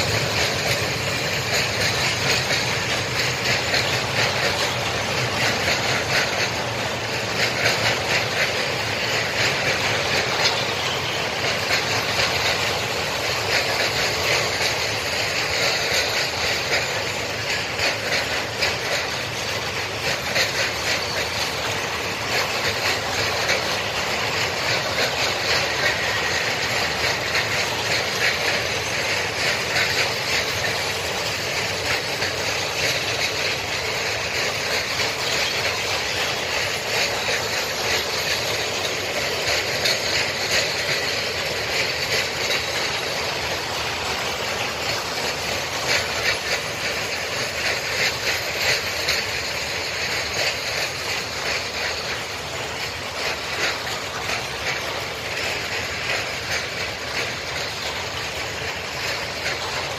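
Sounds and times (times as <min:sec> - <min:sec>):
steel wheels rumbling on rails: 0:00.0 - 0:59.9
train wheel clicks: 0:00.0 - 0:59.9.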